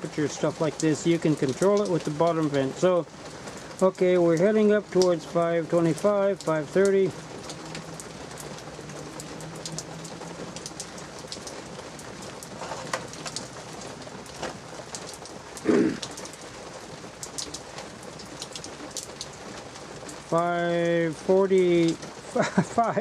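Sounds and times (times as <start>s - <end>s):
light drizzle pattering: 0.0s - 23.0s
sharp drip ticks: 0.0s - 23.0s.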